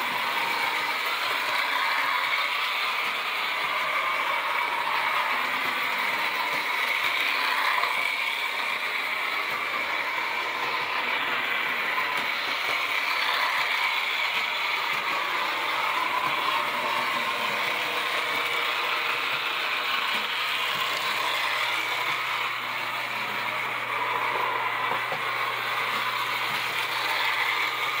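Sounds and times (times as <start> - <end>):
toy trolley motor whirring: 0.0 - 28.0.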